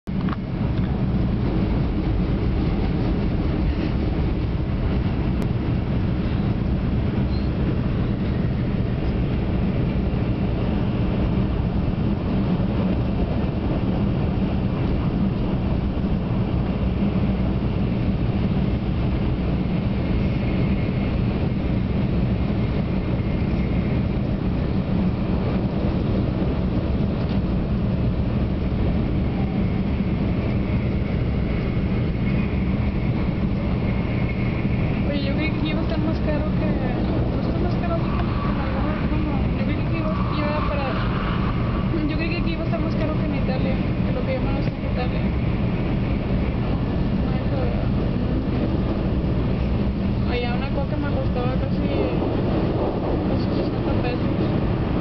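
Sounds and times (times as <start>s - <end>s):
train carriage rumble and hum: 0.0s - 55.0s.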